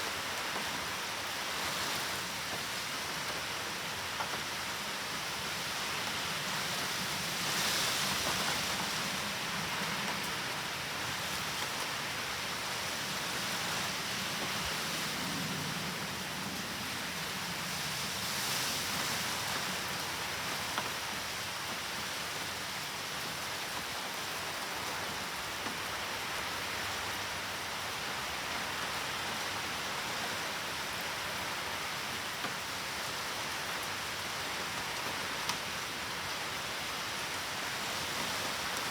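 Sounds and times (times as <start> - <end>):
heavy rain downpour: 0.0 - 38.9.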